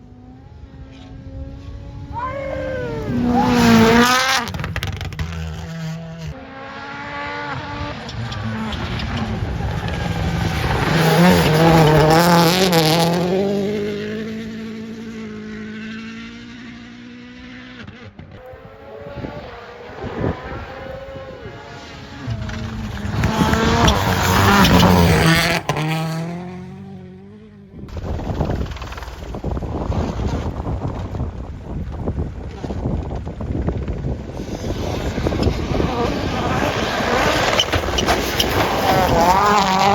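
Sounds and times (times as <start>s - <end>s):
rally car engine passing: 0.0s - 39.9s.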